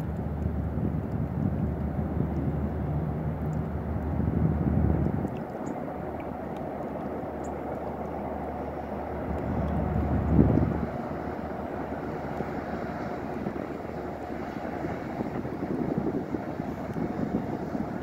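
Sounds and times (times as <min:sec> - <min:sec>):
distant train rumble: 0:00.0 - 0:18.0
low engine hum: 0:00.0 - 0:18.0.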